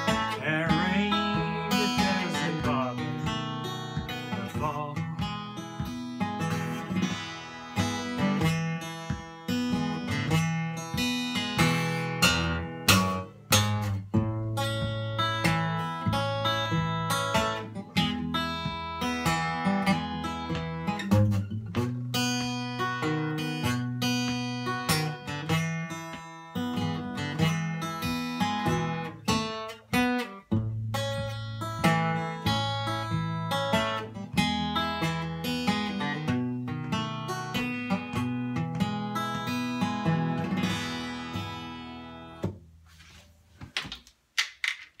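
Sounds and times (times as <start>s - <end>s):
acoustic guitar played solo: 0.0s - 43.2s.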